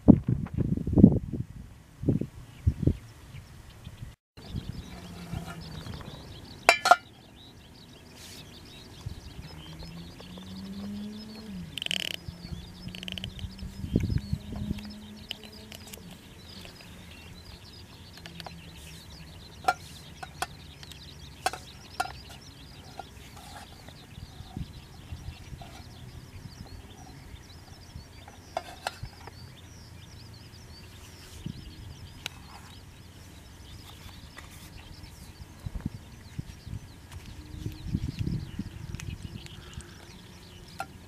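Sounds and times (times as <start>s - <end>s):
faint high chirping: 2.0s - 41.0s.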